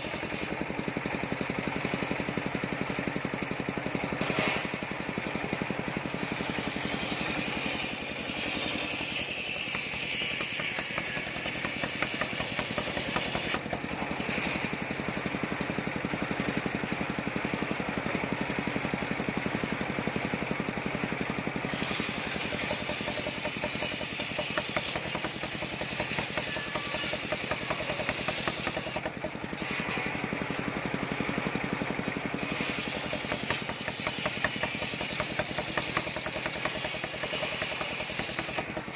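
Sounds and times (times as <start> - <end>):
circular saw blade cutting log: 0.0 - 38.9
sawmill engine drone: 0.0 - 38.9.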